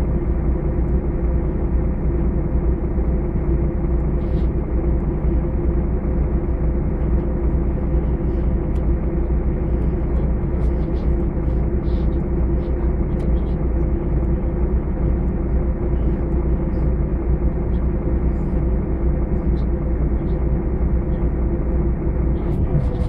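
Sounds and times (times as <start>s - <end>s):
bus engine humming: 0.0s - 23.0s.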